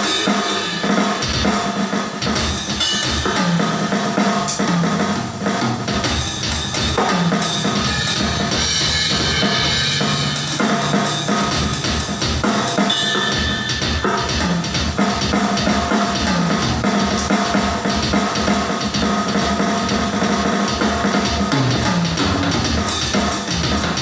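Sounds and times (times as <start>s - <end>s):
drum kit groove: 0.0s - 24.0s.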